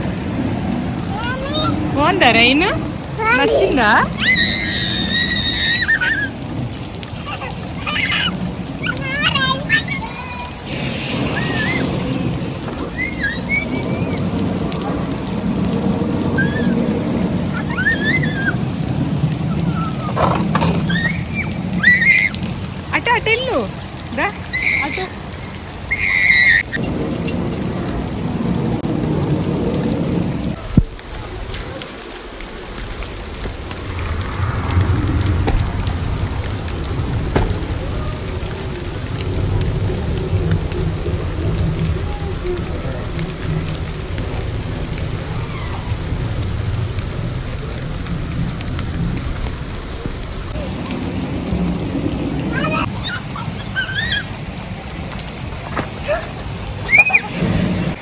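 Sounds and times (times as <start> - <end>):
low rumble: 0.0 - 26.0, 26.6 - 31.1, 33.5 - 49.8
artificial rain hissing: 0.0 - 58.0.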